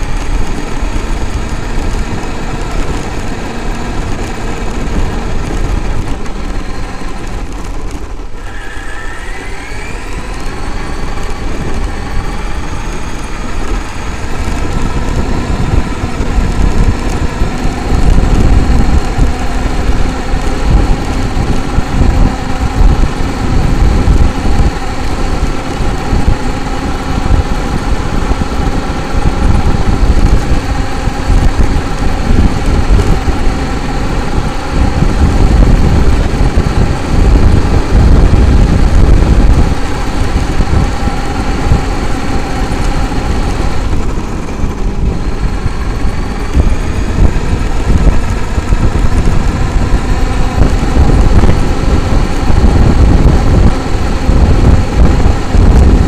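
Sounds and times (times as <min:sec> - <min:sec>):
chassis rattling on rough ground: 0:00.0 - 0:56.0
electric motor whine: 0:00.0 - 0:56.0.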